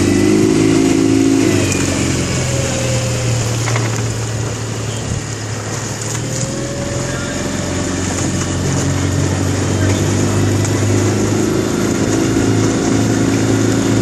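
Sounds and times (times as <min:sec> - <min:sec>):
outboard motor running: 0:00.0 - 0:14.0
water noise: 0:00.0 - 0:14.0
wind: 0:00.0 - 0:14.0.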